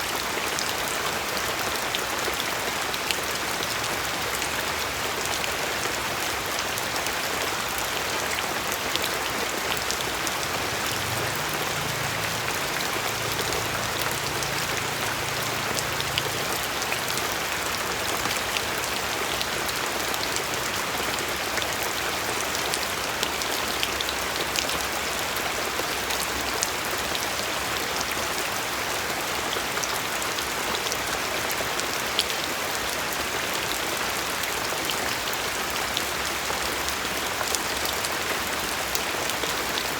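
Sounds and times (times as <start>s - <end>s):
steady rain: 0.0s - 39.9s
raindrops ticking on a surface: 0.1s - 39.9s.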